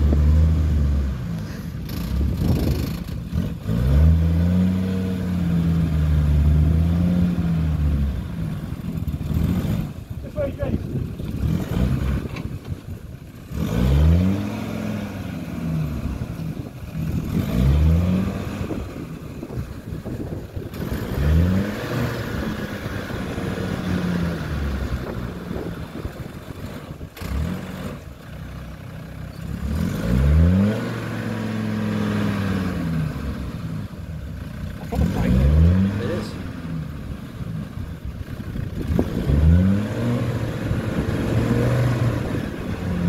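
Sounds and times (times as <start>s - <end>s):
diesel engine revving: 0.0s - 43.0s.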